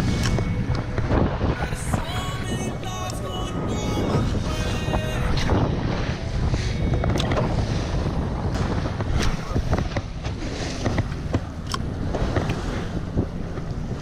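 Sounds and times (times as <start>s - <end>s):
water splashing around boat: 0.0s - 14.0s
wind buffeting microphone: 0.0s - 14.0s.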